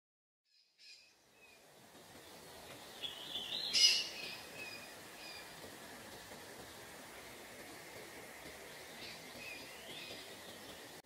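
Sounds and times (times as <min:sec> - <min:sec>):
faint outdoor hiss: 0:00.5 - 0:11.0
birds chirping: 0:00.8 - 0:11.0.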